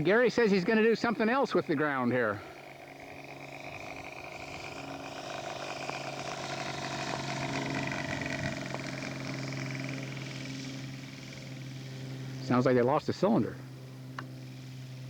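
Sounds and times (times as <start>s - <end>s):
model airplane engine flying past: 0.0s - 15.0s.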